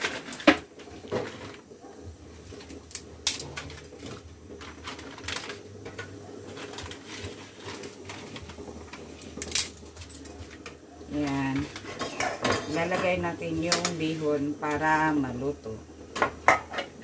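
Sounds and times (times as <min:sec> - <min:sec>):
dry noodles crackling: 0:00.0 - 0:15.1.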